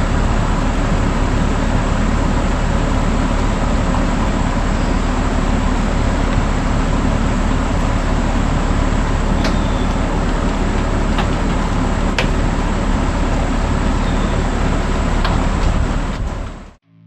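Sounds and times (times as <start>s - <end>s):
skid steer engine running: 0.0s - 16.8s.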